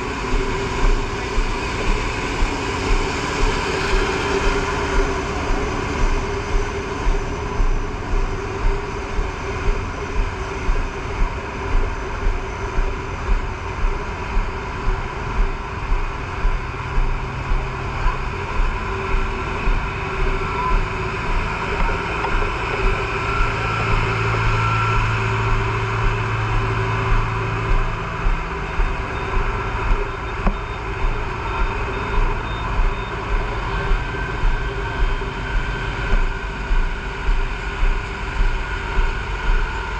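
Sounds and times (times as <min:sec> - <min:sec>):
fire truck engine running: 0:00.0 - 0:39.9.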